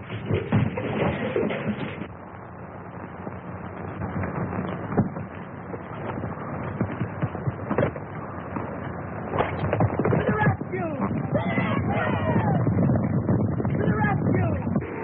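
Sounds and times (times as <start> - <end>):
horse hooves clattering: 0.0 - 2.1, 3.1 - 13.9.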